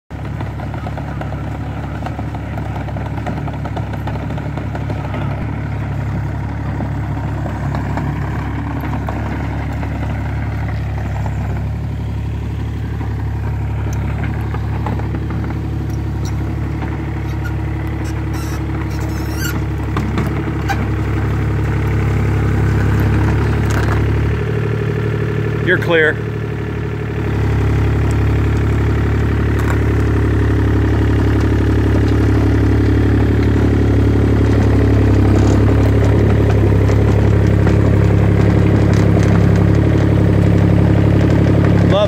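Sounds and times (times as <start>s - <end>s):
excavator diesel engine running: 0.1s - 42.0s.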